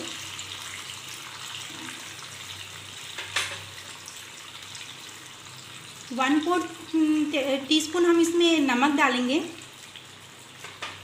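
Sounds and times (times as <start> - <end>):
sauce sizzling in frying pan: 0.0 - 11.0.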